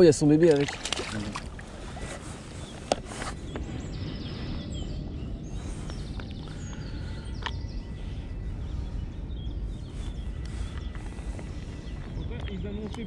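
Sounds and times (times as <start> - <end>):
birds chirping faintly: 0.0 - 13.0
low outdoor rumble: 0.1 - 13.0.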